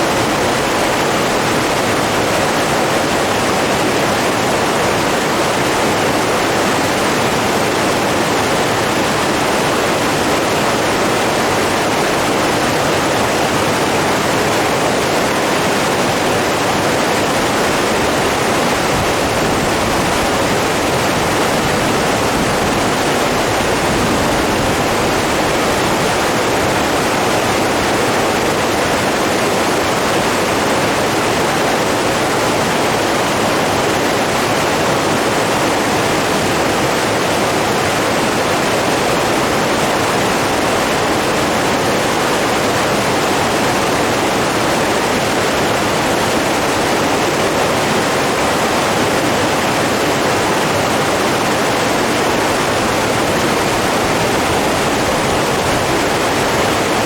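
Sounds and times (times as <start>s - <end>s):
rush of flowing water: 0.0s - 57.0s.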